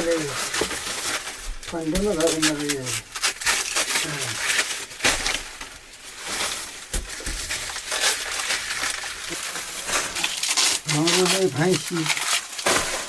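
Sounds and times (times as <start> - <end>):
dry material rustling and crackling: 0.0 - 13.0.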